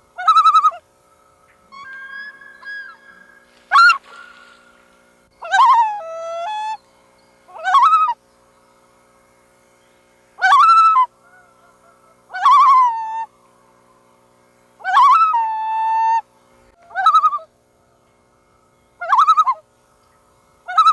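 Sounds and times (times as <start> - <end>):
loons calling: 0.0 - 9.0, 10.4 - 14.2, 14.8 - 20.9.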